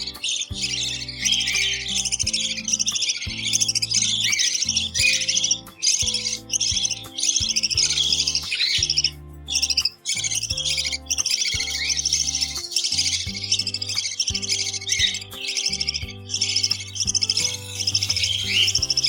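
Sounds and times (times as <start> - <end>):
background music: 0.0 - 19.0
budgie chicks chirping: 0.0 - 19.0.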